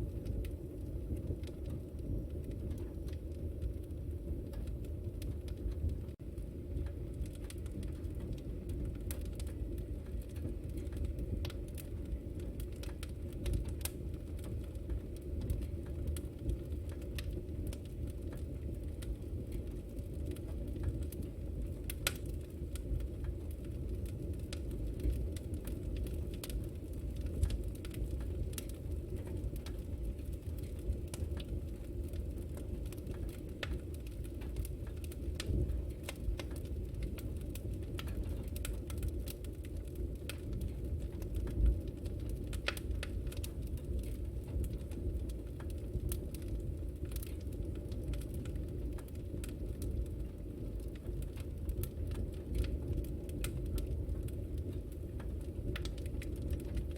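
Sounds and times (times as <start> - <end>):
fire low rumble: 0.0 - 56.9
wood fire crackling and popping: 0.0 - 56.9.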